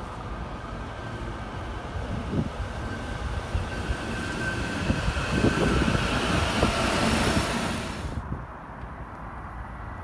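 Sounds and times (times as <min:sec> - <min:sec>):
train wheels rumbling and clattering: 0:00.6 - 0:09.0.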